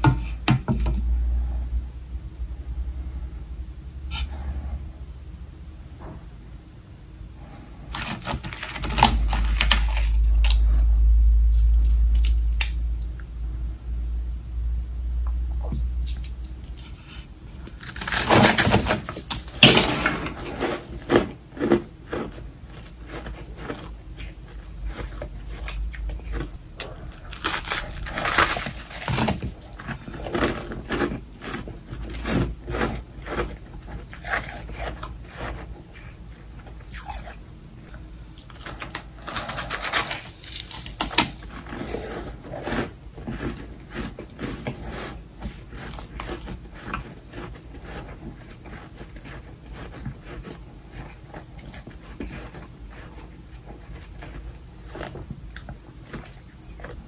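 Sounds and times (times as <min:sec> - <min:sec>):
person biting and chewing frost: 0:04.1 - 0:04.7, 0:07.4 - 0:13.2, 0:15.2 - 0:57.0.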